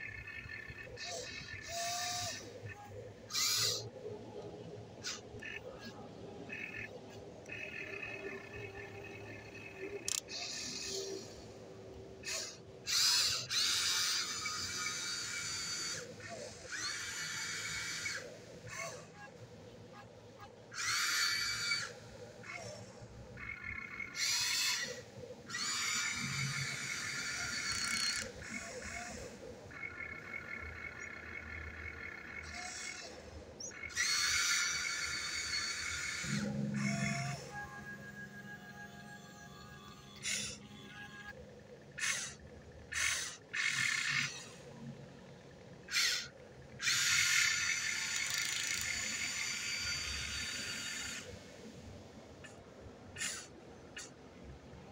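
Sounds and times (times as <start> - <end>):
small electric motors whining: 0.0 - 52.6, 53.2 - 54.2.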